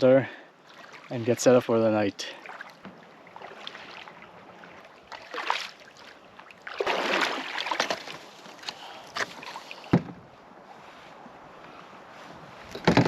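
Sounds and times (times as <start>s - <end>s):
paddle strokes splashing in water: 0.6s - 1.2s, 2.3s - 13.0s.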